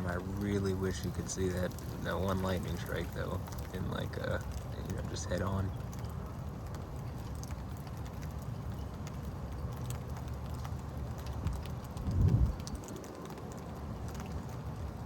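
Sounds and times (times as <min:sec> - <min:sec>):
raindrops ticking close by: 0:00.0 - 0:15.0
steady rain: 0:00.0 - 0:15.0.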